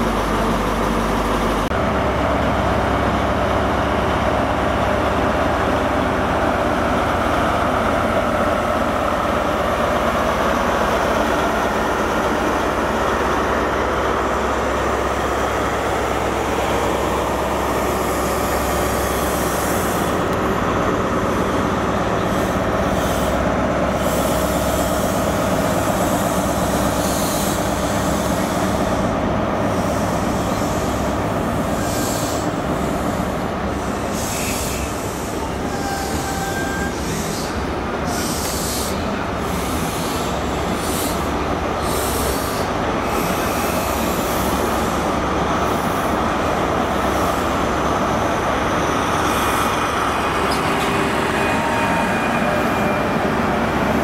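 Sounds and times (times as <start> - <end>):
diesel train engine drone: 0.0 - 54.0
train coaches rumbling past: 0.0 - 54.0.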